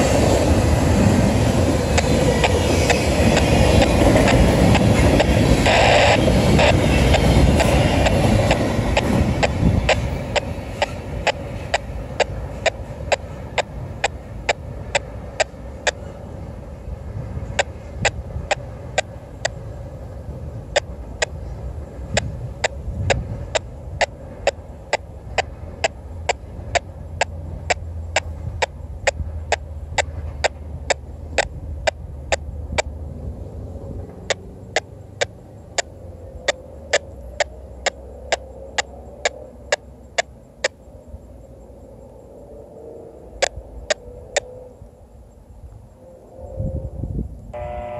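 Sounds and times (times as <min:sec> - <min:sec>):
train wheels clicking over rail joints: 0:00.0 - 0:41.3
train rumble: 0:00.0 - 0:47.9.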